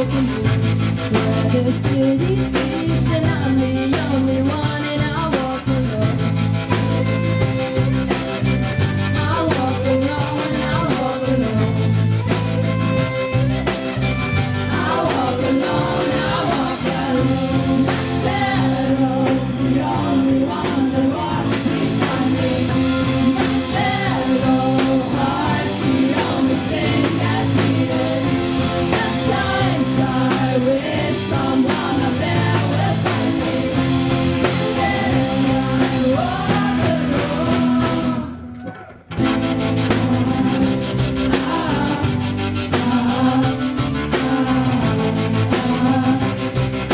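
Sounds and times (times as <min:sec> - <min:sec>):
people singing: 0:00.0 - 0:07.0, 0:07.8 - 0:46.9
drum kit: 0:00.0 - 0:46.9
electric guitar: 0:00.0 - 0:46.9
live rock band: 0:00.0 - 0:46.9.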